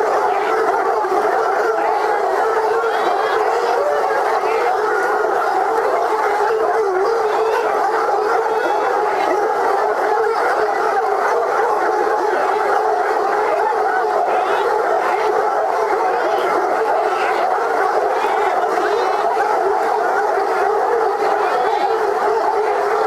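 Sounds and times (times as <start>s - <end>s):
hounds baying and howling: 0.0s - 23.0s.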